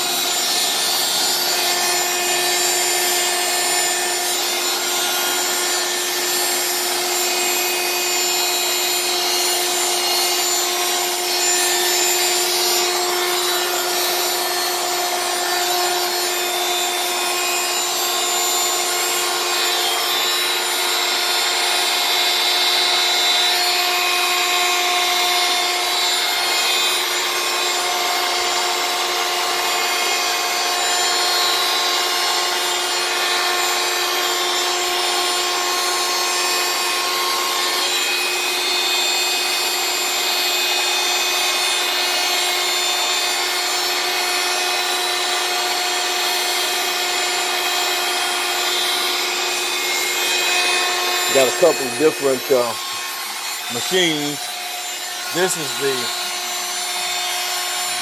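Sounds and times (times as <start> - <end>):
hand vacuum running: 0.0 - 58.0.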